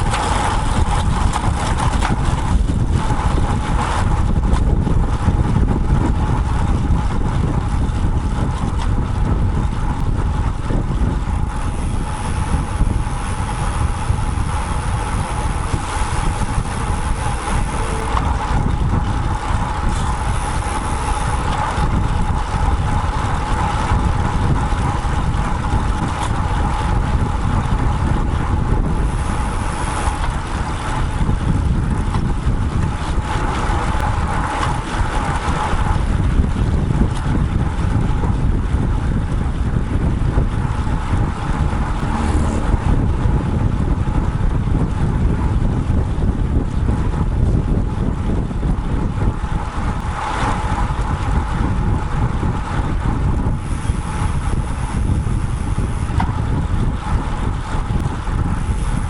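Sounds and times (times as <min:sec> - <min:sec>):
road rumble: 0:00.0 - 0:59.0
steady hum: 0:00.0 - 0:59.0
wind rush: 0:00.0 - 0:59.0.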